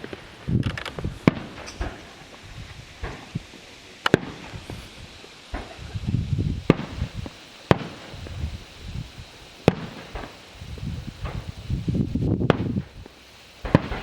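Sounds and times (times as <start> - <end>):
faint fireworks pops: 0.0 - 14.0
fireworks bangs: 0.0 - 14.0.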